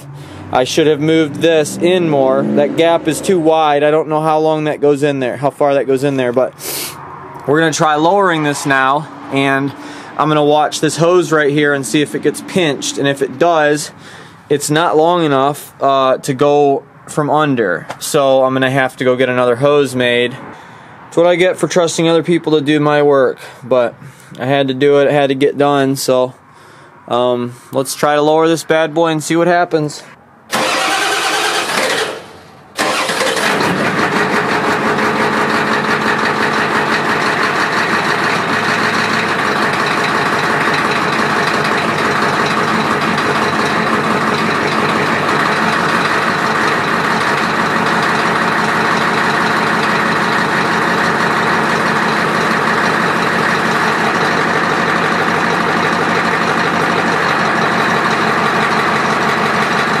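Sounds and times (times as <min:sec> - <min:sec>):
truck engine starting and idling: 0:00.0 - 1:00.0.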